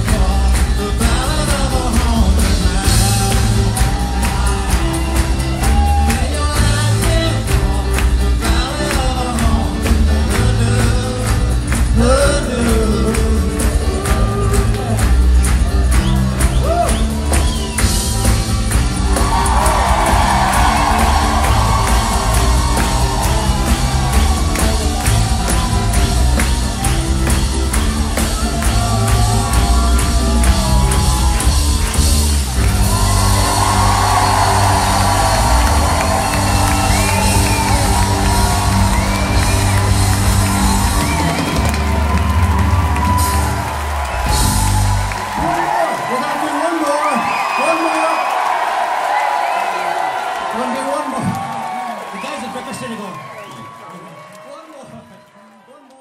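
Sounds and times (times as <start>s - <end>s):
steady drumbeat: 0.0s - 45.8s
rock band playing: 0.0s - 47.0s.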